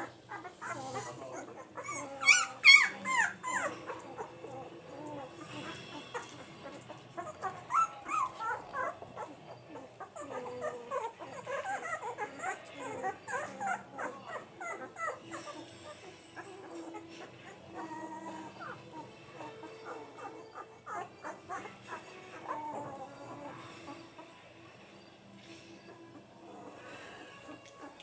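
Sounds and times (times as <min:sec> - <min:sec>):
puppies squeaking and whining: 0:00.0 - 0:28.0.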